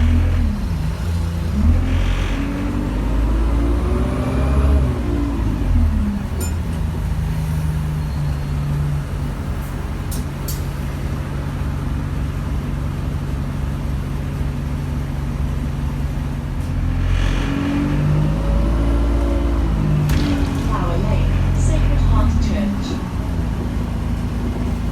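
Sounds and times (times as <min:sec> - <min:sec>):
bus engine droning: 0:00.0 - 0:24.9.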